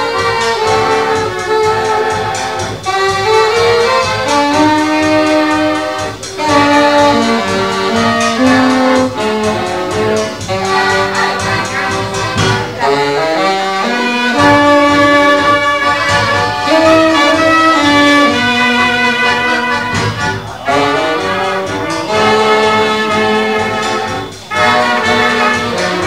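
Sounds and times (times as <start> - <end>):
folk band playing a tango: 0.0 - 26.0
wind instruments holding notes: 0.0 - 26.0.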